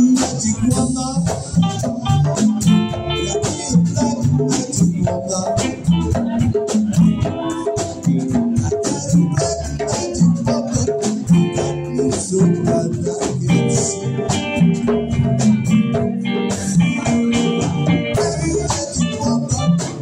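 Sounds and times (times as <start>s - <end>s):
high ticking percussion: 0.0s - 20.0s
live rock band playing: 0.0s - 20.0s.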